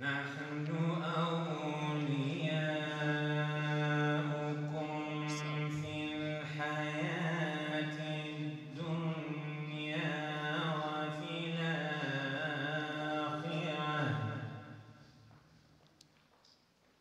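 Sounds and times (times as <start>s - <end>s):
man chanting recitation: 0.0s - 14.6s.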